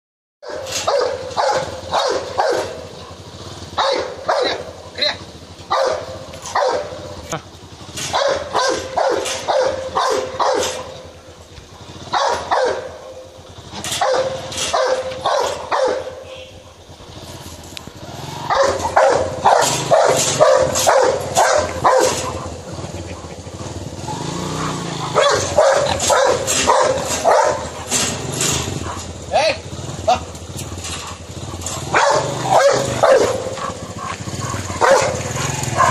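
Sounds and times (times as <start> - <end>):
dog barking aggressively: 0.4 - 7.3, 7.9 - 17.0, 18.0 - 35.9.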